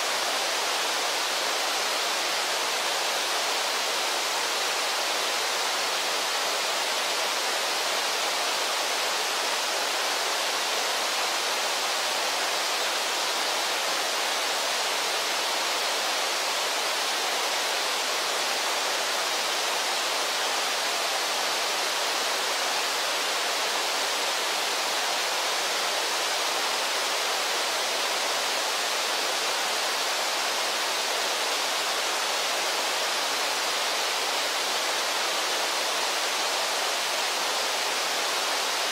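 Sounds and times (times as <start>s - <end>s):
river water rushing over waterfall: 0.0s - 38.9s.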